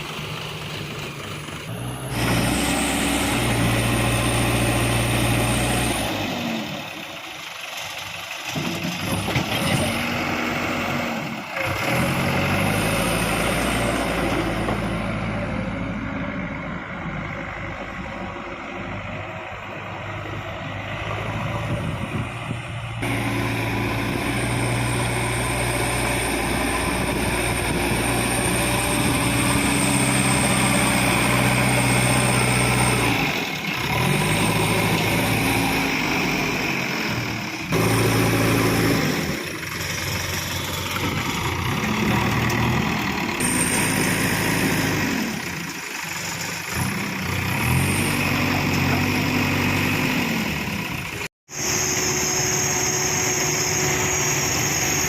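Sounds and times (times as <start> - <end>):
backhoe diesel engine under load: 0.0 - 55.0.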